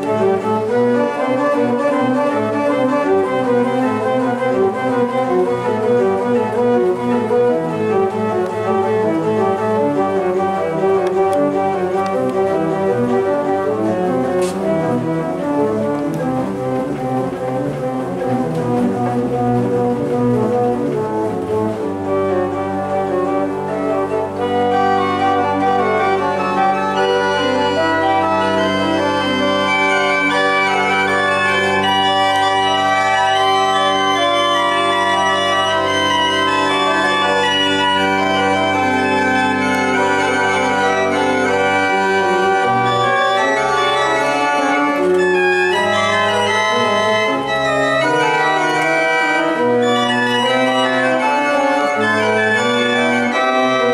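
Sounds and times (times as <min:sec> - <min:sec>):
church organ chords: 0:00.0 - 0:53.9.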